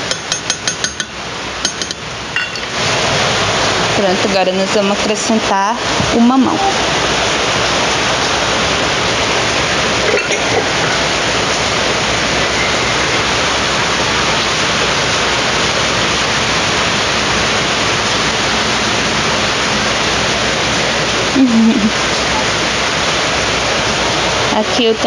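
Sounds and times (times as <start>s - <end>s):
water boiling in a pot: 0.0s - 25.0s.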